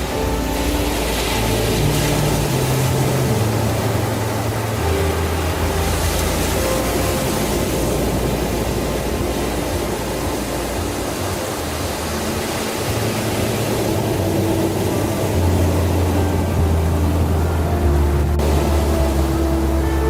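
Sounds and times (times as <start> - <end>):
low bass notes music: 0.0 - 20.0.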